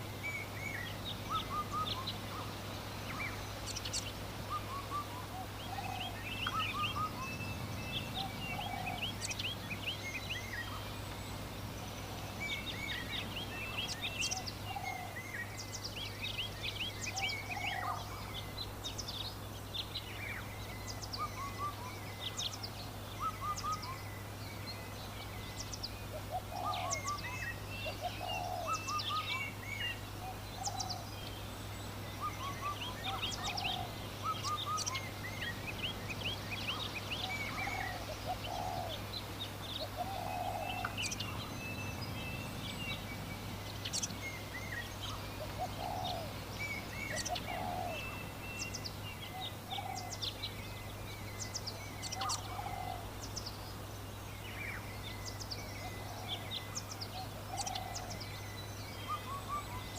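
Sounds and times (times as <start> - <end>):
lower bird calls: 0.0 - 59.9.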